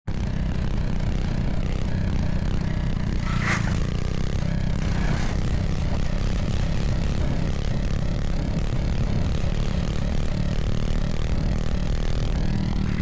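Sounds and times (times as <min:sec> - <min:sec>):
small engine droning: 0:00.1 - 0:13.0.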